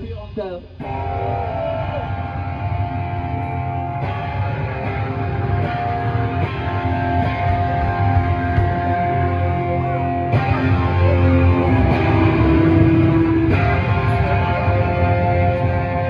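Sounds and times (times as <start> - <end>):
bass and drums: 0.0 - 16.0
electric guitars ringing chords: 0.7 - 16.0.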